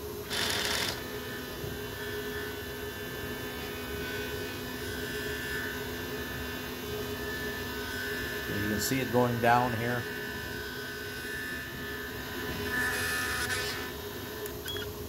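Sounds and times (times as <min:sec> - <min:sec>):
stepper motors whining: 0:00.0 - 0:02.6, 0:03.3 - 0:15.0
machine humming: 0:00.0 - 0:15.0.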